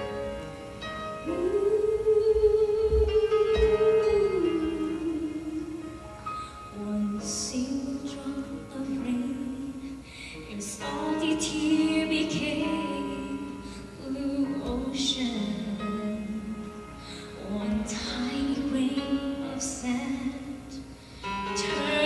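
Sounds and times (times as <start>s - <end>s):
instrumental accompaniment: 0.0s - 22.0s.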